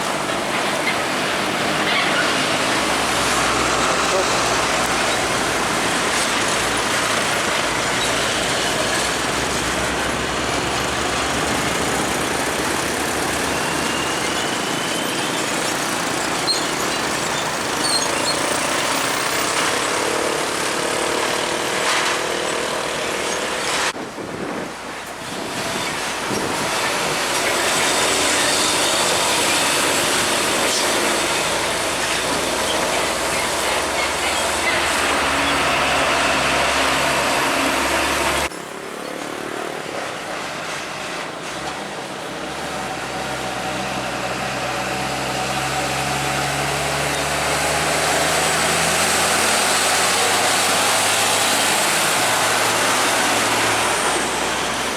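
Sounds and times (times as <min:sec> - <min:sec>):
heavy trucks passing: 0:00.0 - 0:54.9.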